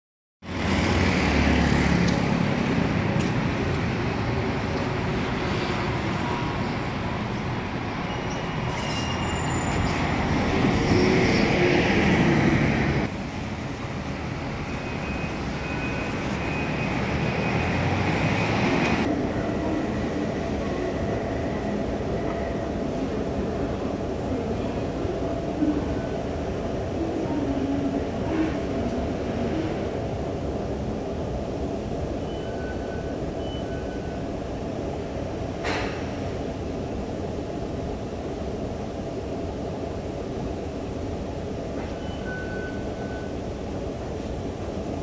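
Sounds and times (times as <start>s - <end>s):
city street traffic: 0.4s - 45.0s.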